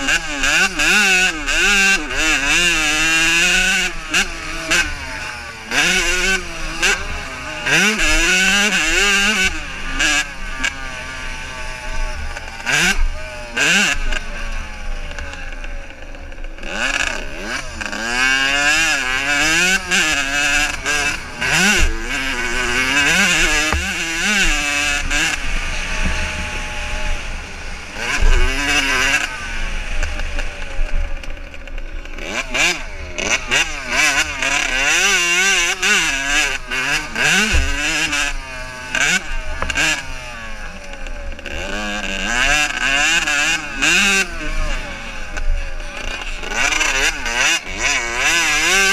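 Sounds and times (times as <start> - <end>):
motocross bike engines revving: 0.0 - 48.9.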